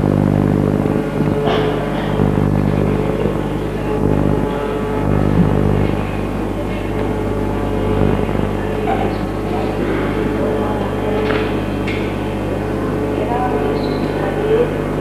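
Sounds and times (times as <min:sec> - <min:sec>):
harmonium drone: 0:00.0 - 0:15.0
low electrical hum: 0:00.0 - 0:15.0
faint voice: 0:00.4 - 0:15.0.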